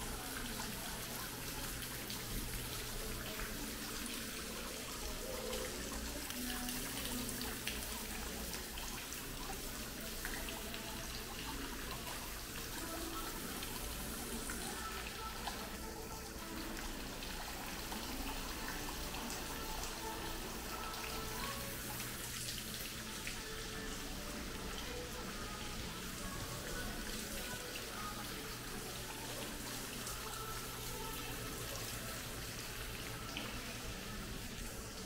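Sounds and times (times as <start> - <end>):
faint background music: 0.0 - 35.0.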